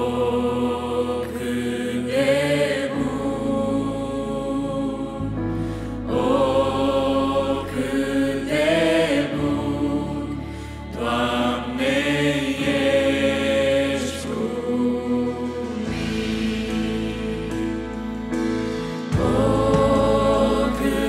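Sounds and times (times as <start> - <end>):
women singing worship song: 0.0 - 21.0.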